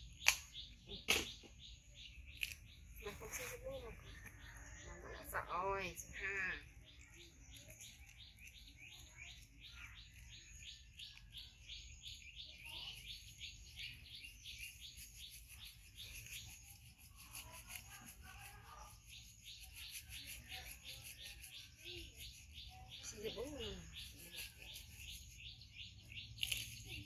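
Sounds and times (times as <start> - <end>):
small bird chirping: 0.0 - 27.0.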